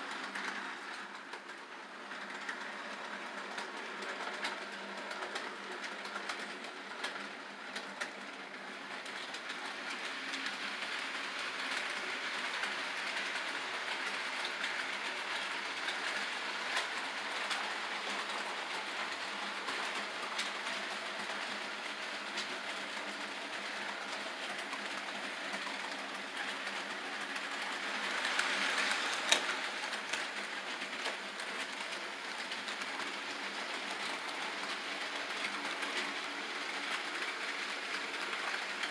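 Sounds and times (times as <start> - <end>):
model train clicks: 0.0 - 38.9.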